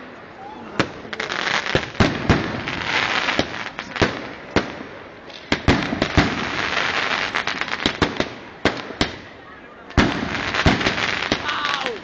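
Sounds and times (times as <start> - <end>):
fireworks crackling and banging: 0.7 - 12.0.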